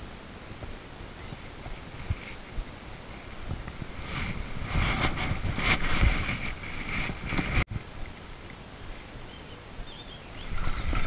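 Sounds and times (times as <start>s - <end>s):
wind and handling noise: 0.0s - 11.0s.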